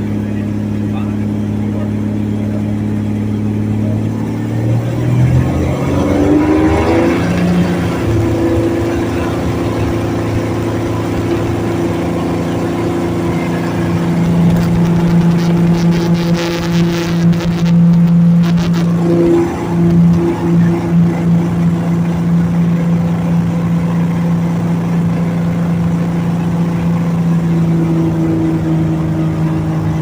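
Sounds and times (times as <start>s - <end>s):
airplane engine and propeller: 0.0s - 30.0s.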